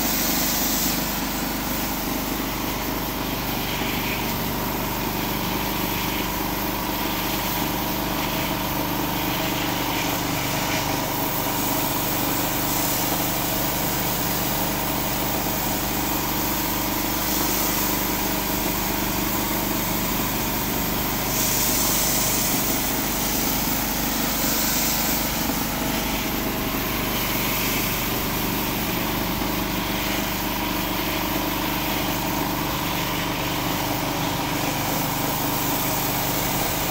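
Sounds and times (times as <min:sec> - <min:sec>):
hiss of water jets on concrete: 0:00.0 - 0:36.9
pressure washer engine running: 0:00.0 - 0:36.9.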